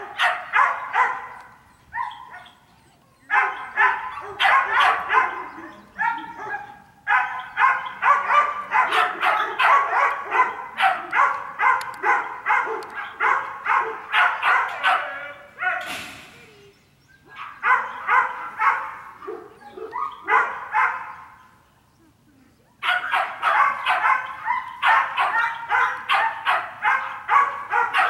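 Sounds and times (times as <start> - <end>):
dog barking: 0.0 - 2.6, 3.3 - 15.9, 17.3 - 21.4, 22.8 - 28.0.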